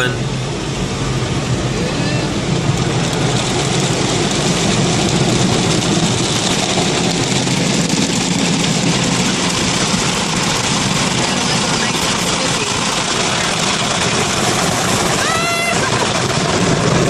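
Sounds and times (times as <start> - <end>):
car wash water spray: 0.0 - 17.0.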